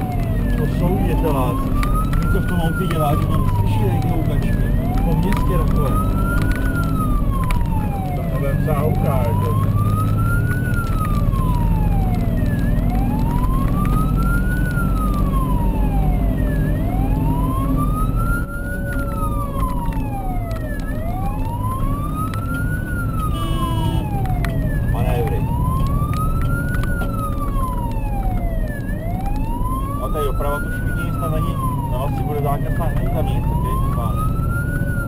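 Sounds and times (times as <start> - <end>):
fire engine siren wailing: 0.0 - 35.0
truck engine rumble: 0.0 - 35.0.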